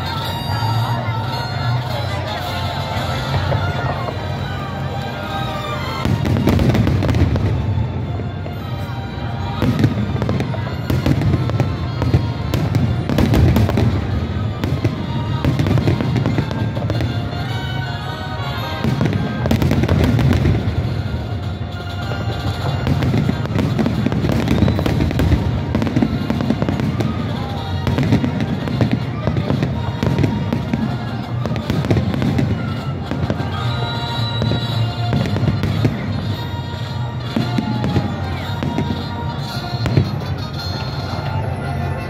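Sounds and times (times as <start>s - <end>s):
fireworks booming and banging: 0.0s - 42.0s
music playing: 0.0s - 42.0s.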